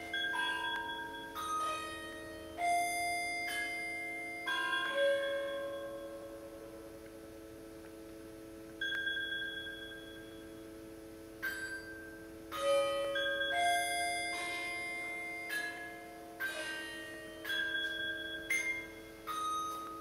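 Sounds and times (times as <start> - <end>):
music box bell-like notes: 0.0 - 7.0, 8.8 - 10.6, 11.4 - 20.0
steady held tone: 0.0 - 20.0.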